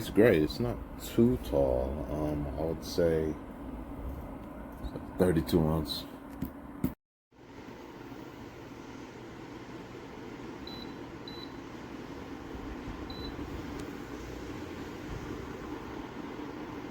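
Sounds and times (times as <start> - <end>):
heater fan blowing: 0.0 - 6.8, 7.4 - 16.9.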